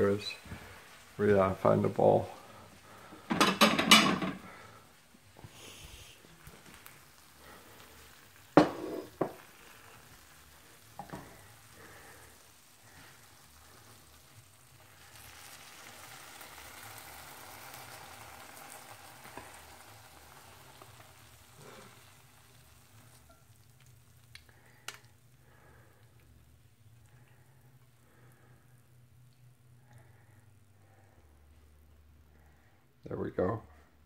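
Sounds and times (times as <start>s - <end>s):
frying pan sizzling: 0.0s - 30.2s.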